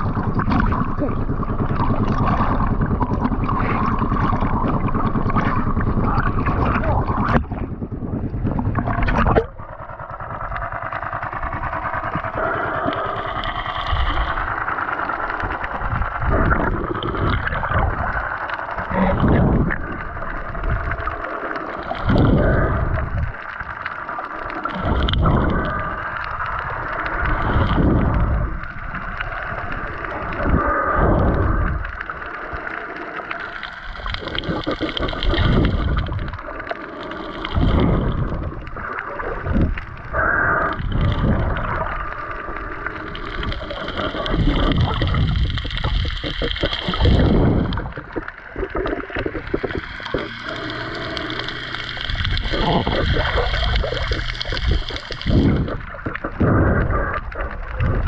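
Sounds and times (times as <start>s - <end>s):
muffled water sloshing: 0.0s - 58.0s.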